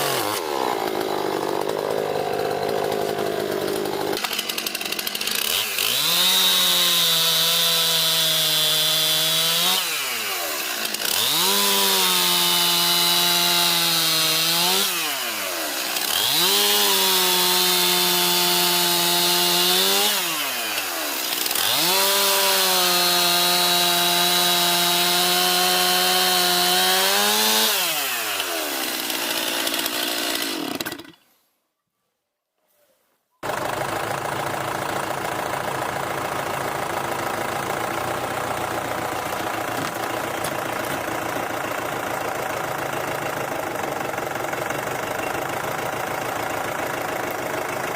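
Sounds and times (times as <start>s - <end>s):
chainsaw engine idling: 0.0s - 31.2s, 33.4s - 47.9s
chainsaw cutting wood: 0.0s - 31.3s, 33.4s - 47.9s.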